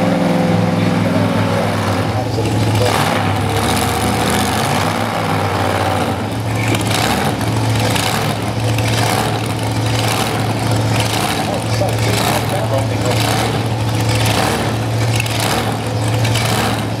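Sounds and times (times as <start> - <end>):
race car engines idling: 0.0 - 17.0.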